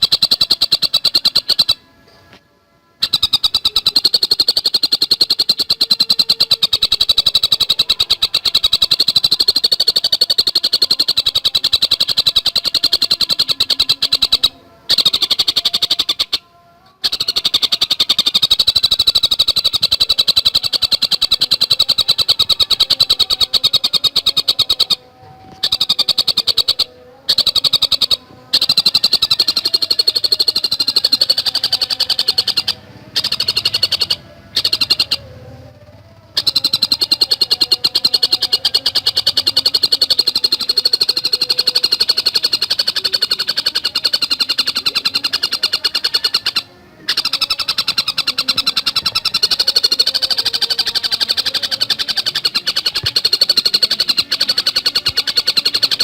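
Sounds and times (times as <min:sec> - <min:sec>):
kingfisher chattering call: 0:00.0 - 0:01.9, 0:03.0 - 0:35.8, 0:36.4 - 0:56.0.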